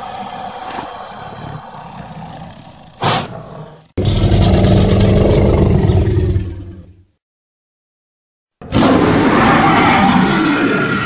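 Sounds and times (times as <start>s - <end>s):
deep growling roar: 0.0s - 7.0s, 8.7s - 11.0s.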